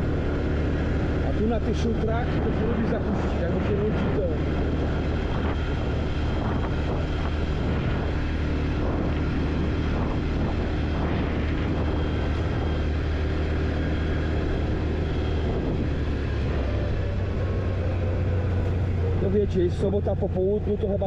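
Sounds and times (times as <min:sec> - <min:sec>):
quad bike engine droning: 0:00.0 - 0:21.0.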